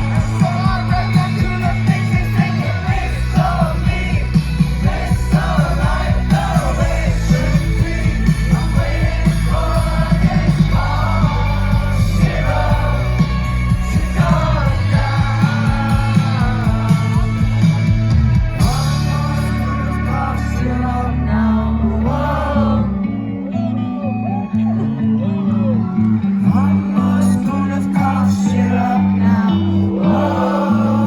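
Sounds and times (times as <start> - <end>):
man singing: 0.0 - 17.8, 18.6 - 23.0, 26.4 - 31.0
rock band playing: 0.0 - 22.3, 22.9 - 31.0
long held bass notes: 0.0 - 31.0.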